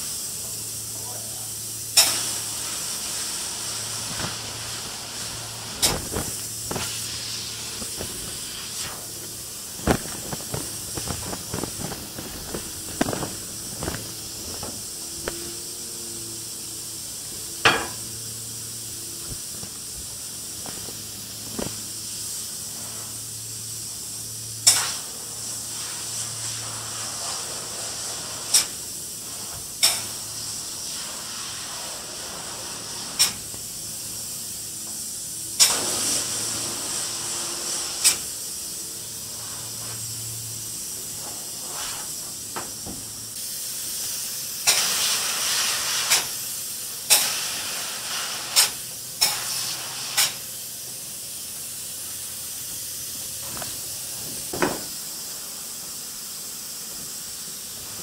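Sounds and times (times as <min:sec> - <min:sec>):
spray foam rig hissing: 0:00.0 - 0:58.0
steady high hiss: 0:00.0 - 0:58.0.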